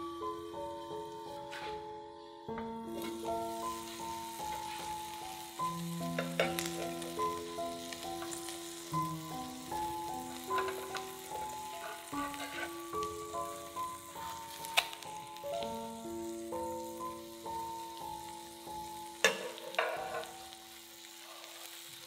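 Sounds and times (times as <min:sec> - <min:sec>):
instrumental background music: 0:00.0 - 0:21.8
food sizzling in a frying pan: 0:02.8 - 0:22.0.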